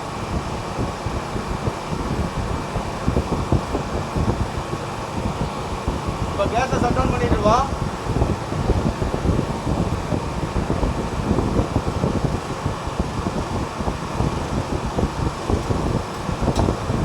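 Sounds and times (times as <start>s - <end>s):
refrigeration compressor running: 0.0s - 17.0s.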